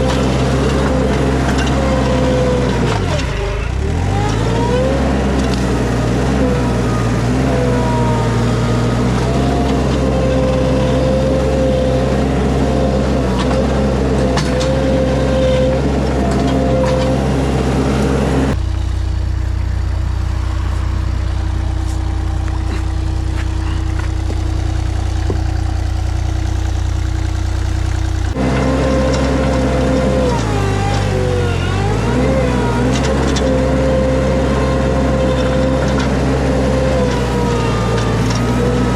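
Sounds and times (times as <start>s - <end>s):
skid steer engine whining: 0.0s - 38.9s.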